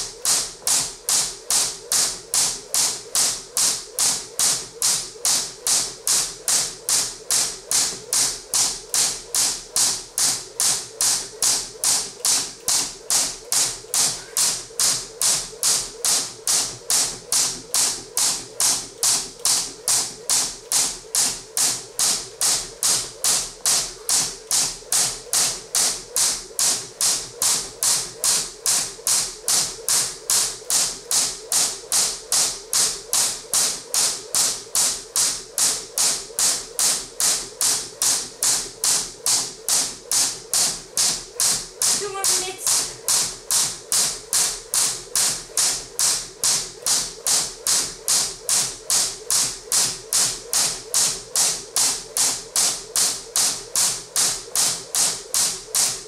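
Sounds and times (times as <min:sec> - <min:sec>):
jump rope slapping the floor: 0:00.0 - 0:56.0.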